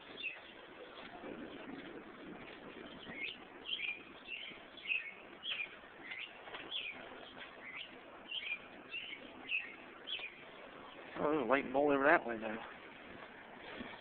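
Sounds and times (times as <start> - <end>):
songbird chirping: 0.0 - 11.9.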